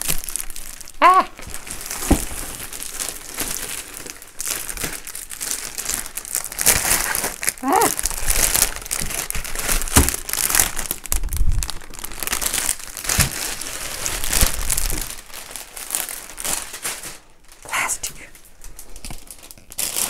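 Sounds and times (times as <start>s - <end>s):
plastic wrap crinkling: 0.0s - 20.0s.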